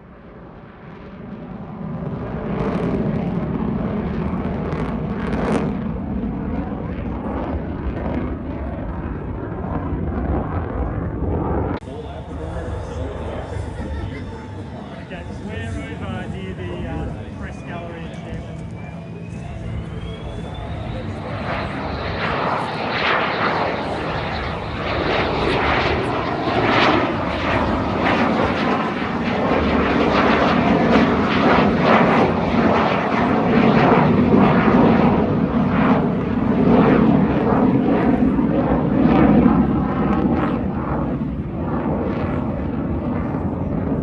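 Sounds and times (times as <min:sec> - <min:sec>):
aircraft engine flying past: 0:00.0 - 0:44.0.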